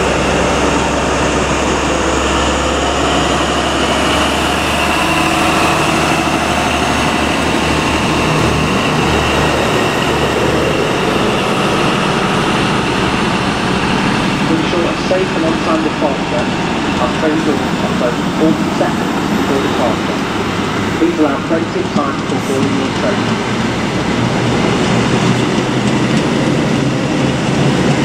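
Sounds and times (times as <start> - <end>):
diesel engine drone with whine: 0.0 - 28.0
train coaches rumbling on rails: 0.0 - 28.0.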